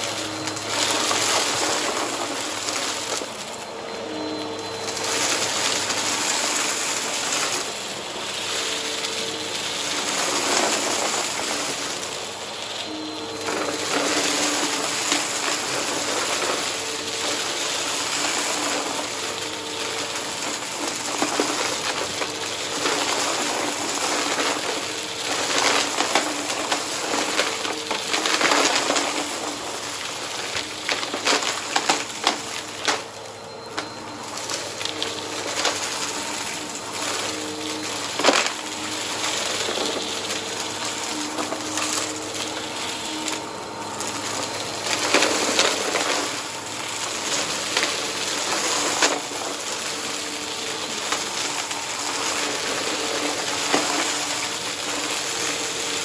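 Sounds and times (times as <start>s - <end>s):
debris crackling up nozzle: 0.0s - 56.0s
vacuum cleaner motor hum: 0.0s - 56.0s.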